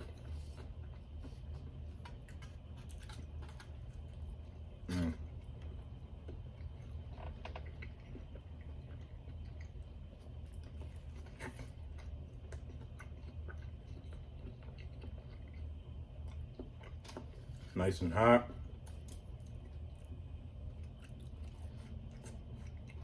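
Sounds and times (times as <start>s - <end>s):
person chewing food: 0.0s - 17.8s, 18.5s - 23.0s
steady low hum: 0.0s - 23.0s.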